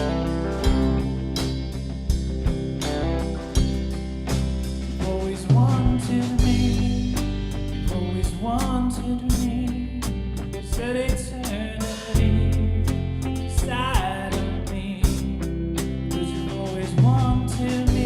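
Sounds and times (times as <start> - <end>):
worship band instrumental: 0.0 - 18.0.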